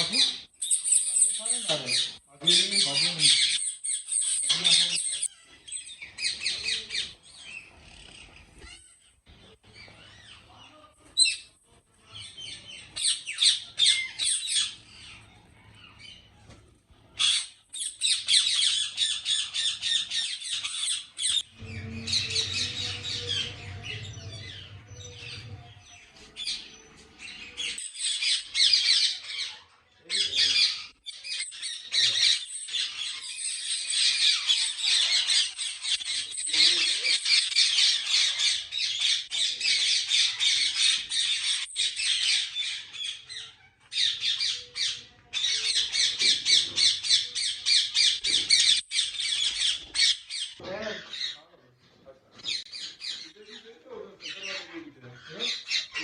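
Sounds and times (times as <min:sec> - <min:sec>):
parakeets squawking and screeching: 0:00.0 - 0:56.0.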